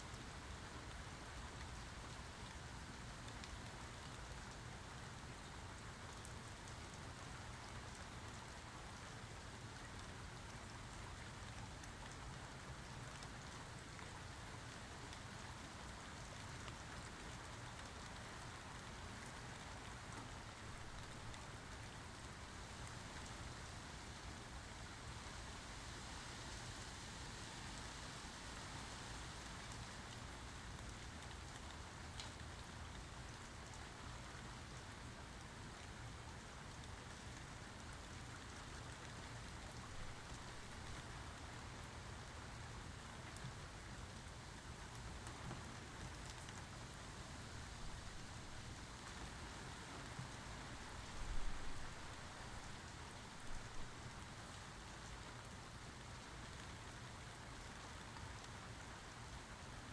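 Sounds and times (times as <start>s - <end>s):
steady rainfall pattering: 0.0s - 59.9s.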